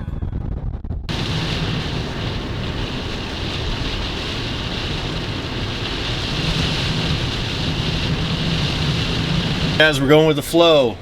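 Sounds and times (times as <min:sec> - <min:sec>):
wind buffeting microphone: 0:01.1 - 0:10.2
storm wind blowing: 0:01.1 - 0:10.4.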